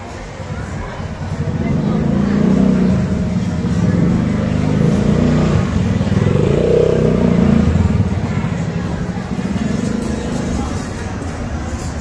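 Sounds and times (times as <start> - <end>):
vehicle engine passing close: 1.3 - 11.3.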